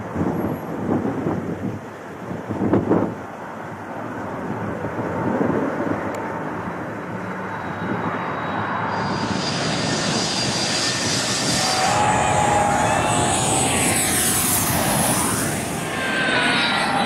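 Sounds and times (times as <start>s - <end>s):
jet engines rumbling: 2.9s - 17.0s
jet taking off with high hiss: 2.9s - 17.0s.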